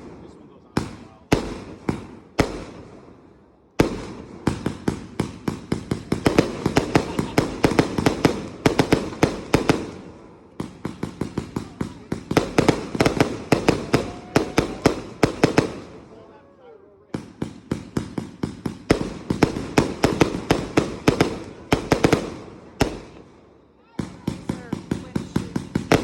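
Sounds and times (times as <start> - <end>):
fireworks and firecrackers banging: 0.0 - 26.0.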